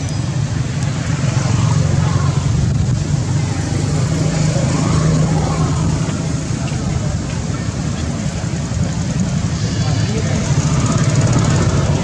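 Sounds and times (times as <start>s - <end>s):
low motor drone with hiss: 0.0s - 12.0s.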